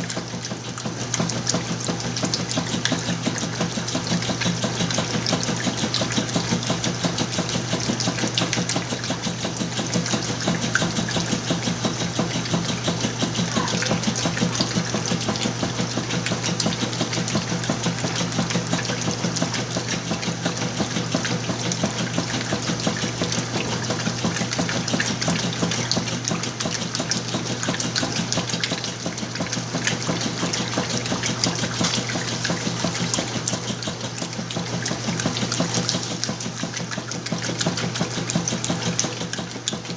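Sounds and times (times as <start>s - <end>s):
churning water: 0.0s - 39.9s
washing machine motor hum: 0.0s - 39.9s.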